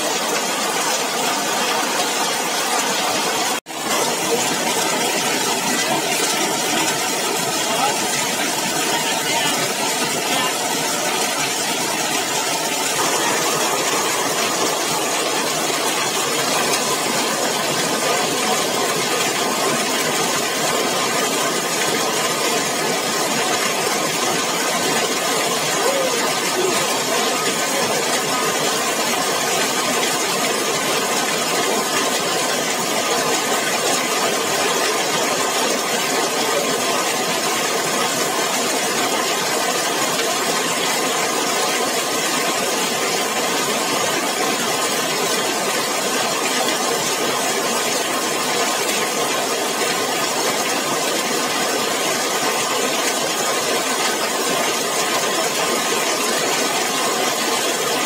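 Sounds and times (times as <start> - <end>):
heavy rain on metal roof: 0.0 - 58.0.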